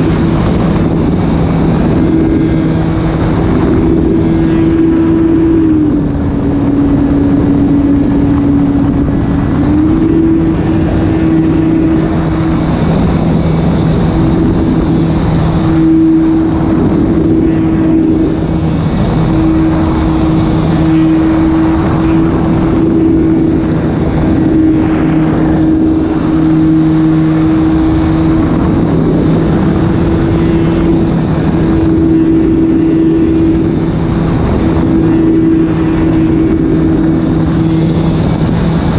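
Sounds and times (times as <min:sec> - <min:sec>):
electric model plane motor: 0:00.0 - 0:38.9.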